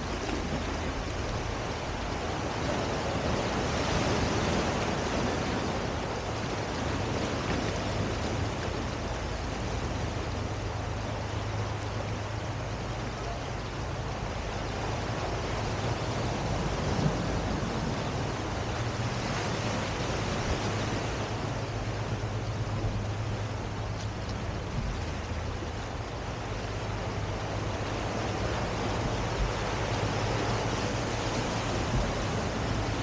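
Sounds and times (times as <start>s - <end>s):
ocean surf on sandy beach: 0.0s - 33.0s.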